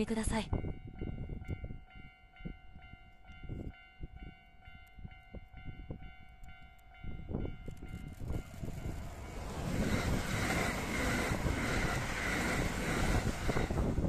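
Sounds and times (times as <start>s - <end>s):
electric train approaching: 0.1s - 14.0s
wind buffeting microphone: 0.2s - 14.0s.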